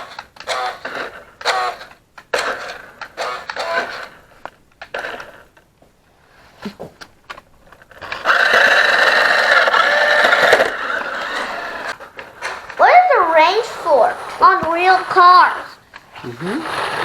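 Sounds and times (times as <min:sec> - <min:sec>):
toy car electric motor whirring: 0:00.0 - 0:05.6, 0:07.8 - 0:17.0.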